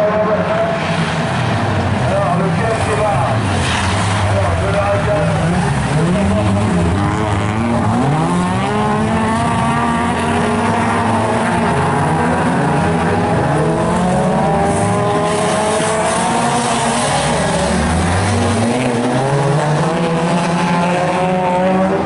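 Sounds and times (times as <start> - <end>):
racing car engines revving: 0.0 - 22.0.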